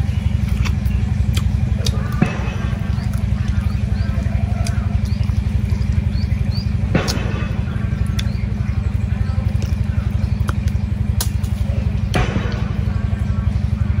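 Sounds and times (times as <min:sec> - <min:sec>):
low pulsing mechanical throb: 0:00.0 - 0:14.0
sharp clicks: 0:00.2 - 0:13.2.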